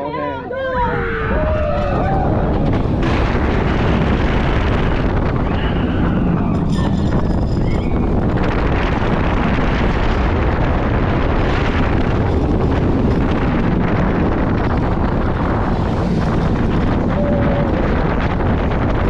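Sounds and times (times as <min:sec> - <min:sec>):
wind buffeting microphone: 0:00.4 - 0:19.0.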